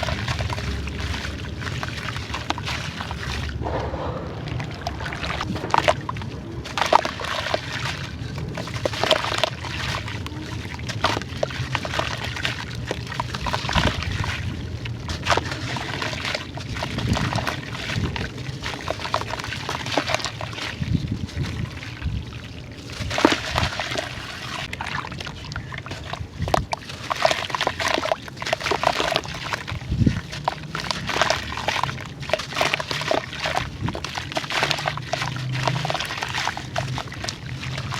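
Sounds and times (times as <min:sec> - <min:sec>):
water sloshing and pouring: 0:00.0 - 0:37.9.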